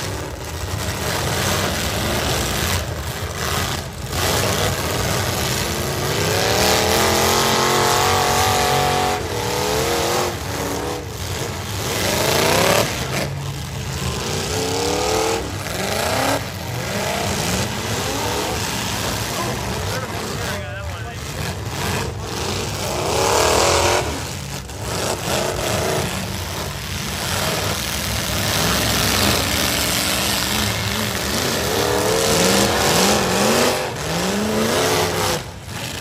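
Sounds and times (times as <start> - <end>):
dense noisy din: 0.0 - 36.0
truck engines revving hard: 0.0 - 36.0.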